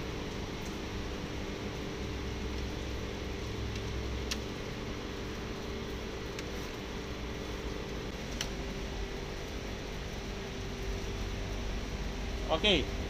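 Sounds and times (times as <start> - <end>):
air conditioner hum and fan: 0.0 - 13.0.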